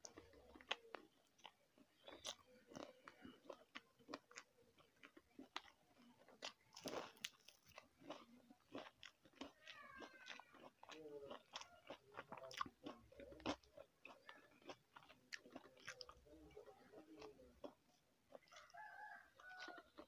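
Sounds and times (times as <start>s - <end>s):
person eating and chewing: 0.0s - 20.0s.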